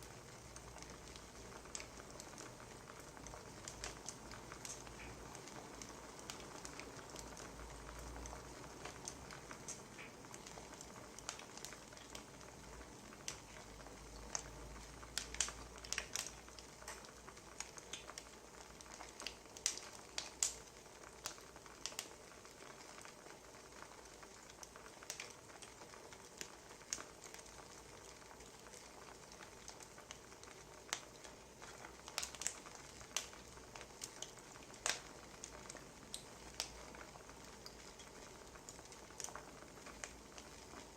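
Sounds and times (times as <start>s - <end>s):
soft steady hiss: 0.0s - 40.9s
wood fire crackling: 0.0s - 40.9s.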